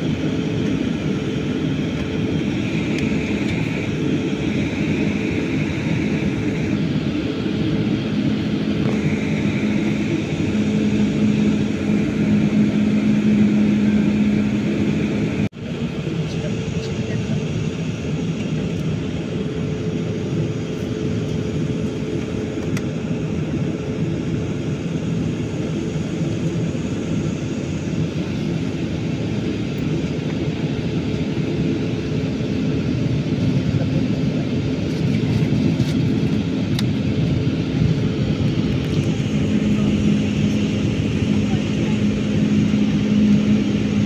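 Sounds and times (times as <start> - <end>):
jet engines humming in cabin: 0.0 - 44.0.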